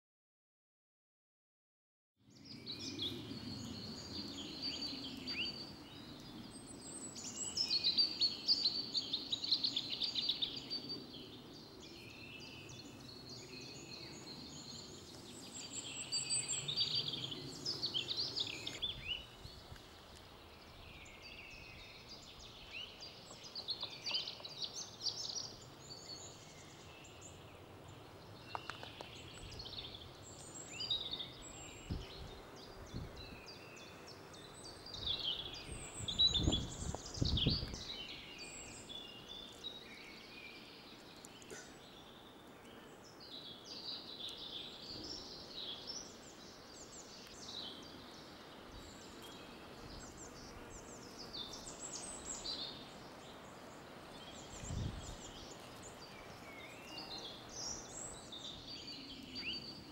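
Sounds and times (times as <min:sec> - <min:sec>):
songbirds chirping: 0:02.2 - 0:59.9.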